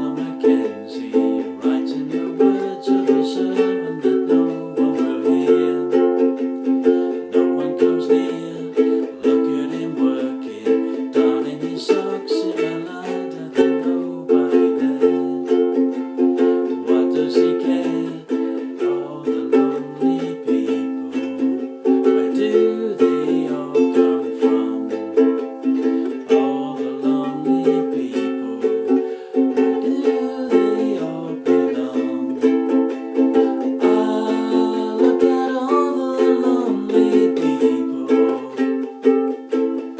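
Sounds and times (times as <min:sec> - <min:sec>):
ukulele-like strumming: 0:00.0 - 0:39.9.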